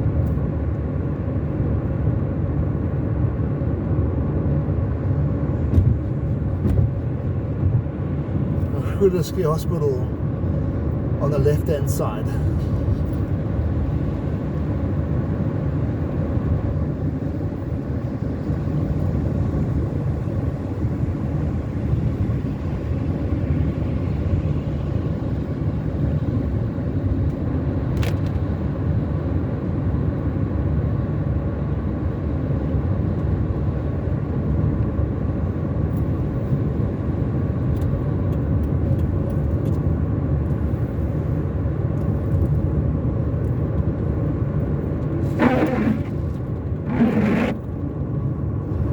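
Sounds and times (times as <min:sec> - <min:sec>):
car tyre and engine rumble: 0:00.0 - 0:48.9.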